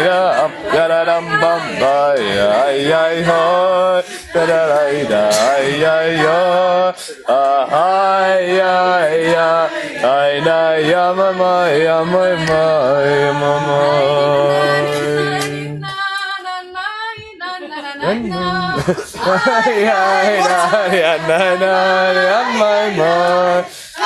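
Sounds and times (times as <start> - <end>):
person singing unaccompanied: 0.0 - 24.0.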